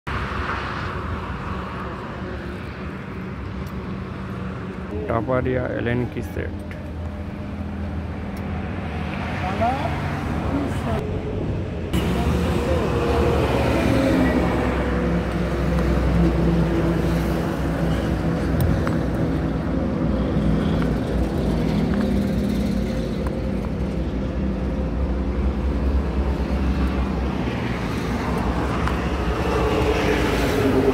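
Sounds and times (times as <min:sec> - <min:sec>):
engine rumble: 0:00.2 - 0:30.9.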